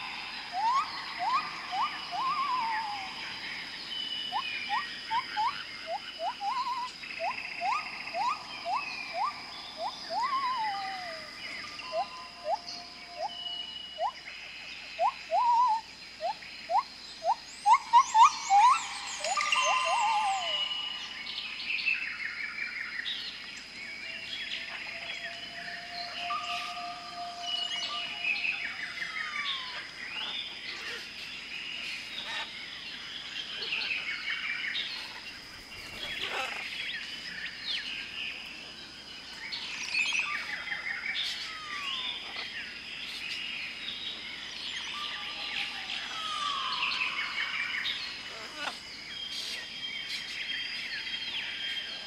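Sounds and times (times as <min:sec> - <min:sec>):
birds chirping and whistling: 0:00.0 - 0:38.4, 0:39.4 - 0:52.0.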